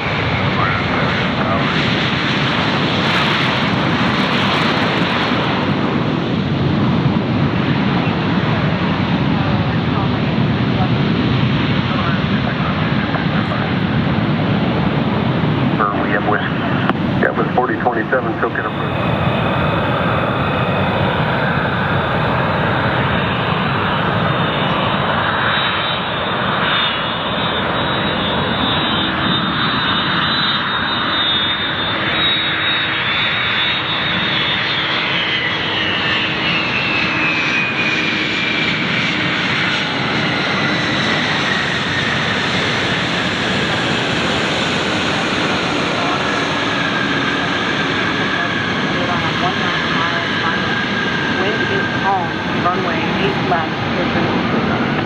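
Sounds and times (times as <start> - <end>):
jet engines roaring with whine: 0.0 - 55.0.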